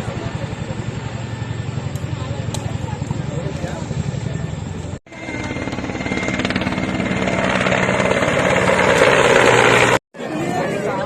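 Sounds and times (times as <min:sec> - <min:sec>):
helicopter rotor beating: 0:00.0 - 0:10.0.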